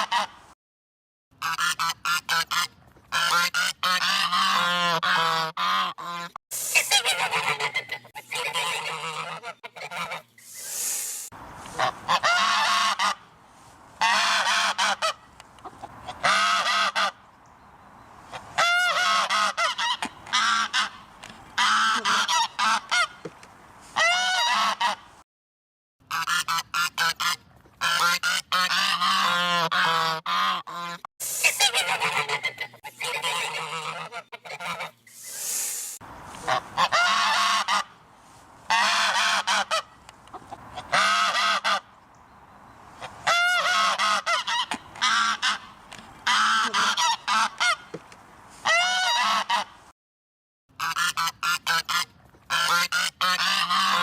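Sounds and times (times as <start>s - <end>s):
geese honking: 1.4s - 10.8s, 11.6s - 13.4s, 14.0s - 17.2s, 18.3s - 23.2s, 24.0s - 25.1s, 26.1s - 35.0s, 36.3s - 38.0s, 38.7s - 41.9s, 43.0s - 48.0s, 48.6s - 49.8s, 50.8s - 54.0s.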